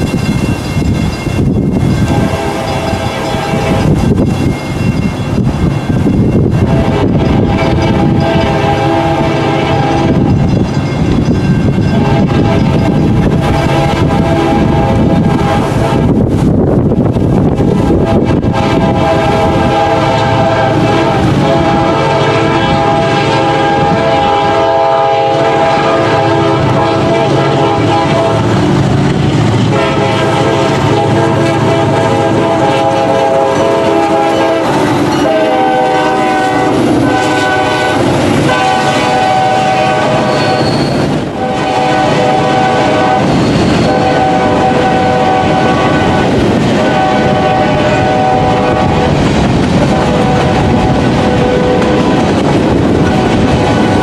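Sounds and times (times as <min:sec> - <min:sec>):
diesel locomotive running: 0:00.0 - 0:54.0
locomotive air horn blasts: 0:02.0 - 0:04.0, 0:06.5 - 0:10.3, 0:11.9 - 0:16.2, 0:17.6 - 0:29.0, 0:29.6 - 0:52.4.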